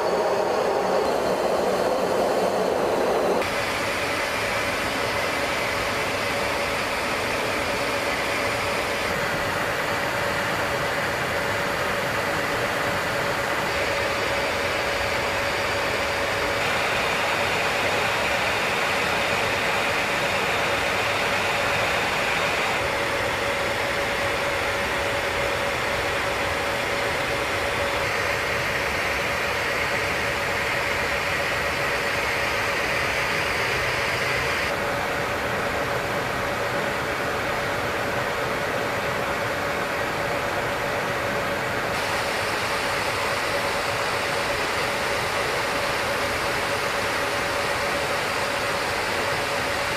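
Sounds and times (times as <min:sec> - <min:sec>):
engine and airflow drone: 0:00.0 - 0:49.9.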